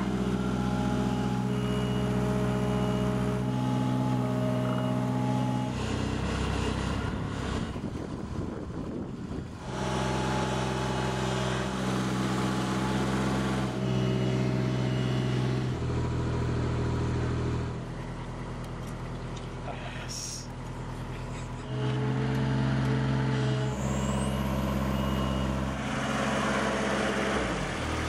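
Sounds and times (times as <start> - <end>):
lift engine running: 0.0 - 28.0.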